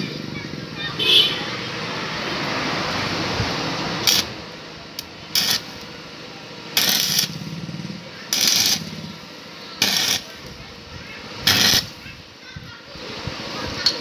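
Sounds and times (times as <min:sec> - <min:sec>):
welding arc crackling: 0:01.5 - 0:14.0.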